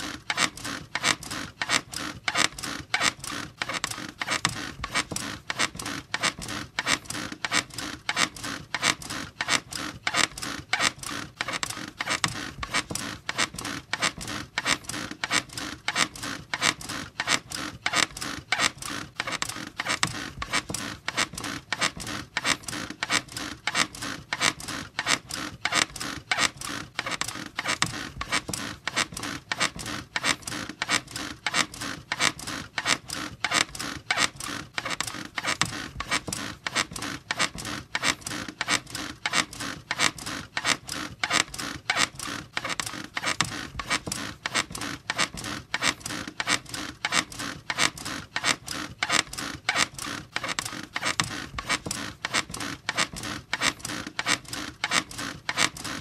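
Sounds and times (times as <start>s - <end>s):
squeaky bed creaking: 0.0s - 56.0s.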